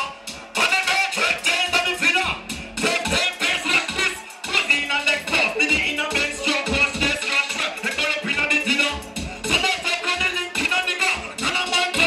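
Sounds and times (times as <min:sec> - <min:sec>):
heavy bass beat: 0:00.0 - 0:12.0
loud dancehall music: 0:00.0 - 0:12.0.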